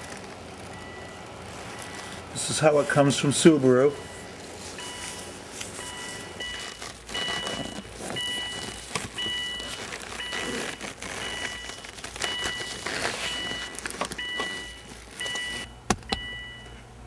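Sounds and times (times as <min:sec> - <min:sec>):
car warning chime beeping: 0:00.0 - 0:10.6, 0:11.2 - 0:16.8.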